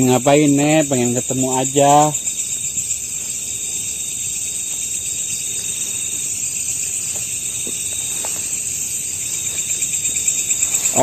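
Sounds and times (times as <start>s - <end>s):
crickets and insects chirping: 0.0s - 11.0s.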